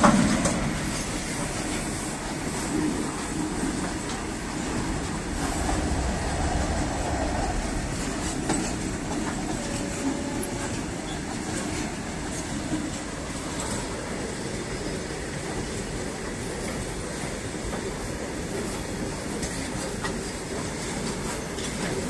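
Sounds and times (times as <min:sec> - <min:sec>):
train wheels rumbling on rails: 0:00.0 - 0:22.0
wheels clacking over rail joints: 0:00.0 - 0:22.0.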